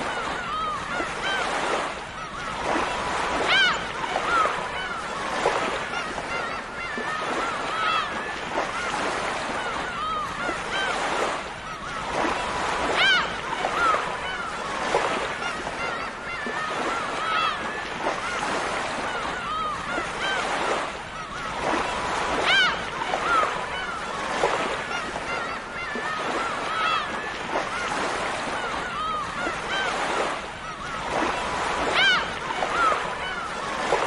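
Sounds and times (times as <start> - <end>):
gulls calling: 0.0 - 34.0
surf washing: 0.0 - 34.0.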